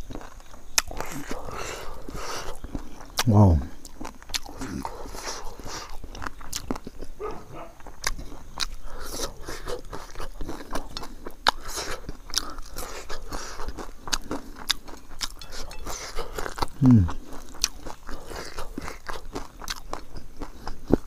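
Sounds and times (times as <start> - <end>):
wet chewing with crunches: 0.0 - 21.0.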